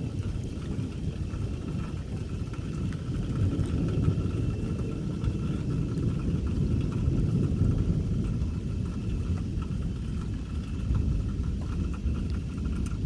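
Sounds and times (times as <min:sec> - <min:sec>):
distant thunder rumbling: 0:00.0 - 0:13.0.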